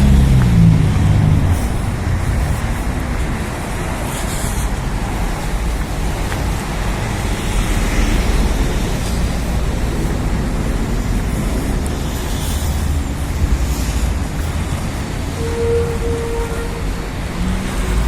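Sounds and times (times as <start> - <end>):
passing vehicle engine hum: 0.0 - 18.0
road traffic noise: 0.0 - 18.0.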